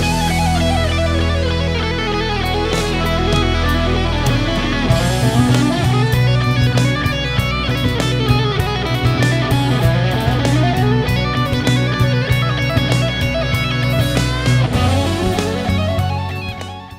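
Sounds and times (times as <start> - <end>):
guitar-led background music: 0.0 - 16.9.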